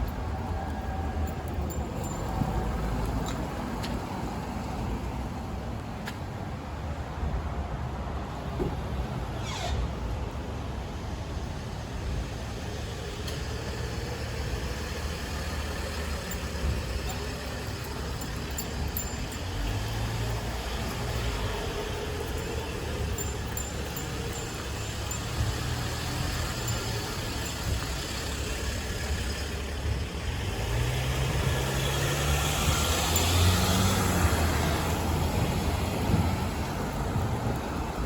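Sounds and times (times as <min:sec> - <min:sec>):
traffic noise: 0:00.0 - 0:38.0
vehicle engine humming: 0:00.0 - 0:38.0.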